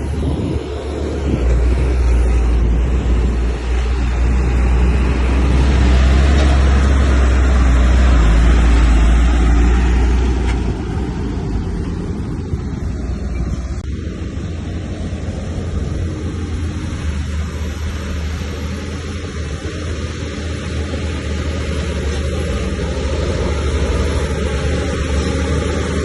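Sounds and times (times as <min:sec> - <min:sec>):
heavy diesel engine under load: 0:00.0 - 0:26.0.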